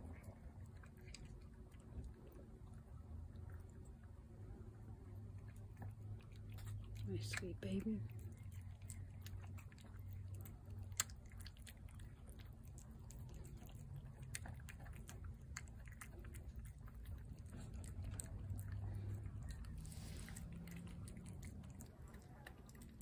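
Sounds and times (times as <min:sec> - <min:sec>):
cat chewing food: 0:00.0 - 0:23.0.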